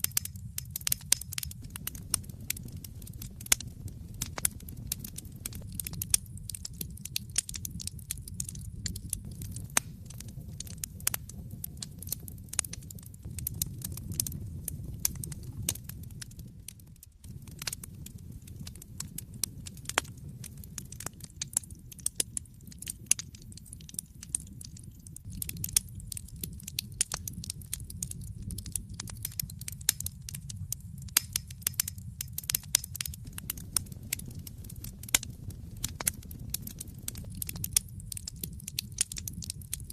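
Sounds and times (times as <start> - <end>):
fire crackling and popping: 0.0 - 39.9
low rush of flames: 0.0 - 39.9.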